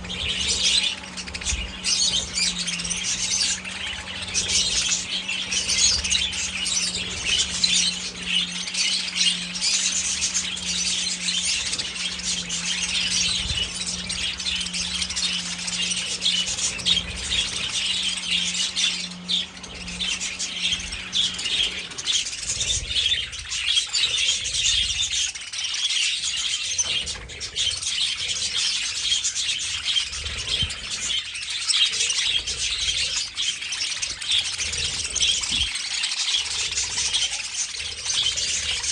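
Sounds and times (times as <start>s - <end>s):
flock of budgerigars chirping: 0.0s - 38.9s.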